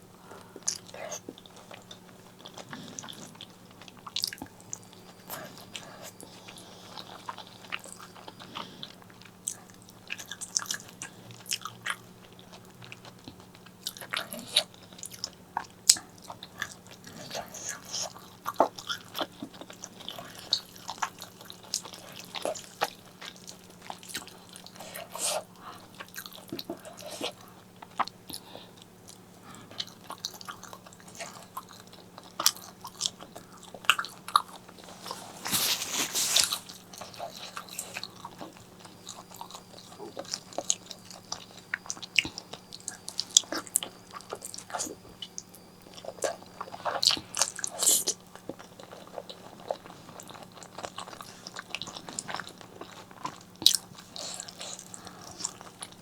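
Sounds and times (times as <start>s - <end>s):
faint steady hum: 0.0s - 56.0s
chewing mouth sounds: 0.2s - 56.0s.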